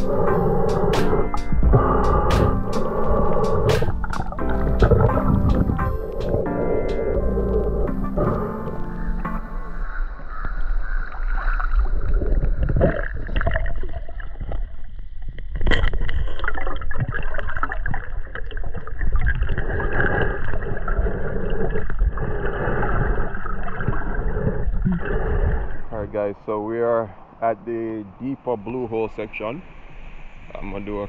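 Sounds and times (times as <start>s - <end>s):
water sloshing and gurgling: 0.0s - 26.1s.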